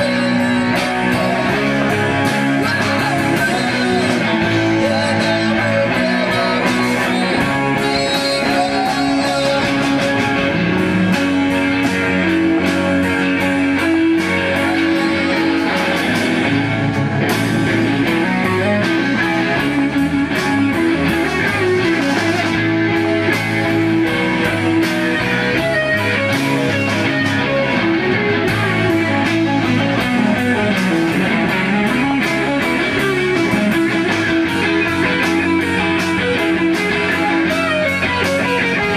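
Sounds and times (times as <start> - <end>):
lead guitar bending notes: 0.0 - 38.9
live rock band: 0.0 - 38.9.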